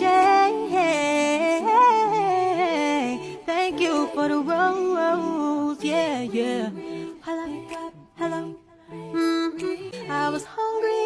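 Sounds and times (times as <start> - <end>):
person singing a cappella: 0.0 - 11.0.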